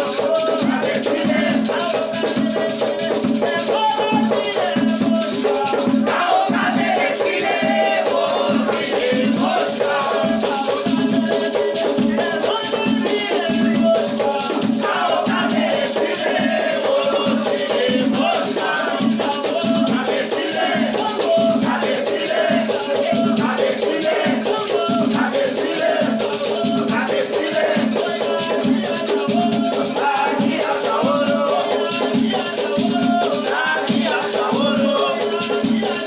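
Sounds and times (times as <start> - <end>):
shakers rattling: 0.0 - 36.0
steady drum beat: 0.0 - 36.0
voices singing: 0.0 - 36.0.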